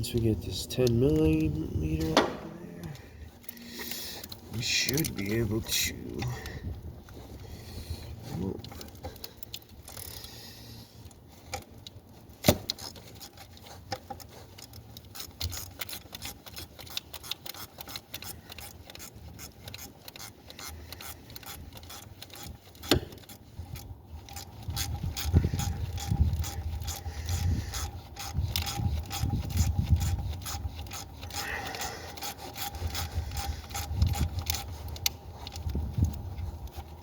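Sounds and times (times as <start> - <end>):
ratchet wrench clicking: 0.0 - 7.2, 8.6 - 37.0.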